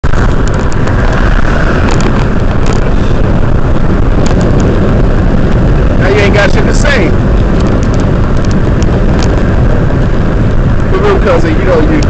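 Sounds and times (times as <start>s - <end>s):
wind and road noise in car: 0.0s - 12.0s.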